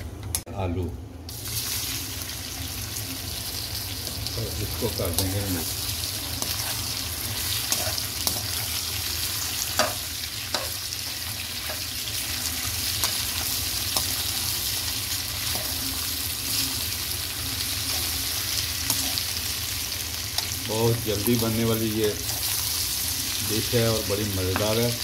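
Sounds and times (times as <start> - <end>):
potatoes sizzling in oil: 1.3 - 25.0.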